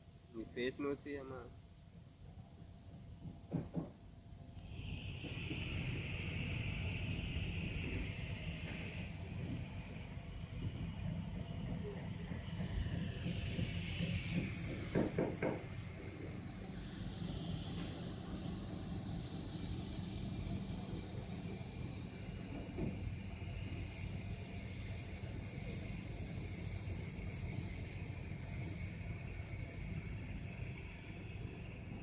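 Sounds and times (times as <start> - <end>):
welding arc hissing: 4.6 - 32.0.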